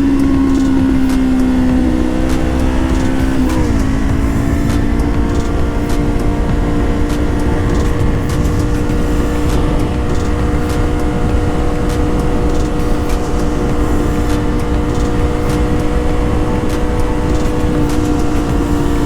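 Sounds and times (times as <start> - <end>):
motorcycle engine running: 0.0 - 19.0
wind noise: 0.0 - 19.0.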